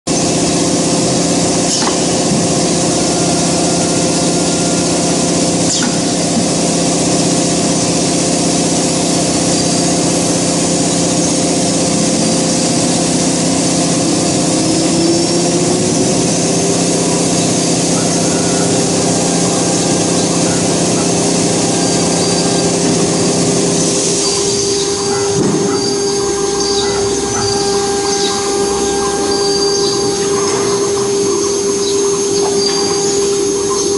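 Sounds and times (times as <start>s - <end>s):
cnc router spindle whining: 0.1s - 33.9s.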